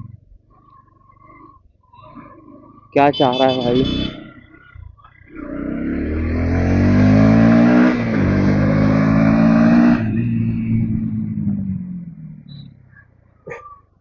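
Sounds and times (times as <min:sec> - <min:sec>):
motorcycle engine accelerating: 0:00.0 - 0:01.2, 0:02.2 - 0:13.5.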